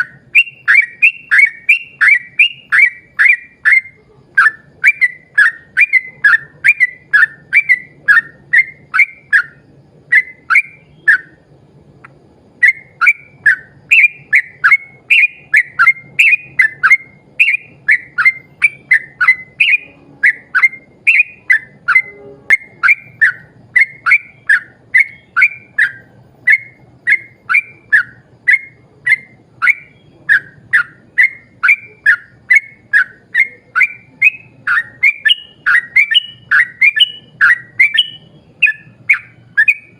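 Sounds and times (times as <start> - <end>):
bird singing bubbling whistles: 0.0 - 39.9.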